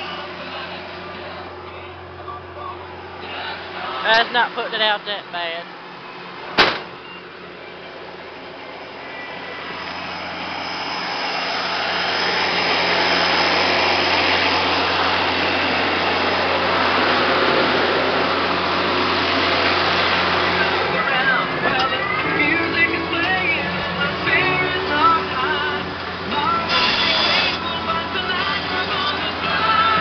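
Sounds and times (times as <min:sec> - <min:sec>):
diesel tractor engine under load: 0:00.0 - 0:30.0.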